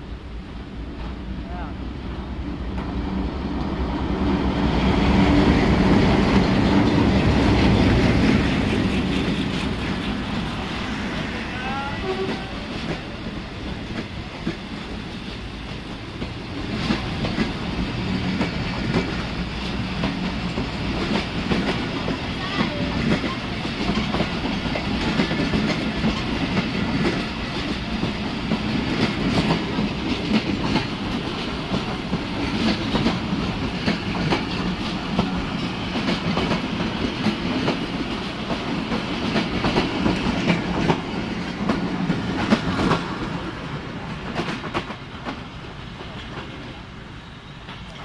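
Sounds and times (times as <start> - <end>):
train coaches rumbling past: 0.0 - 48.0.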